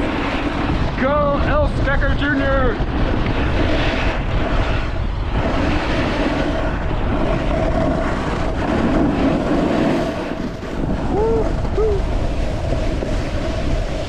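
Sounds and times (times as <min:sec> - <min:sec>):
snowboard scraping over snow: 0:00.0 - 0:14.0
wind on microphone: 0:00.0 - 0:14.0.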